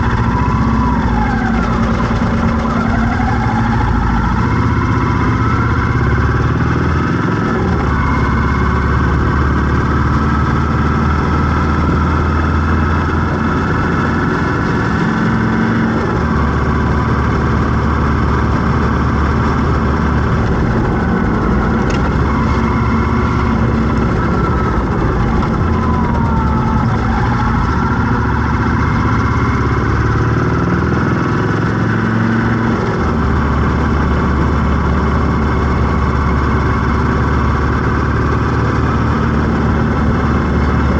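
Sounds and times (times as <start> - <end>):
rising and falling tones: 0.0 - 40.9
vehicle engines running: 0.0 - 40.9.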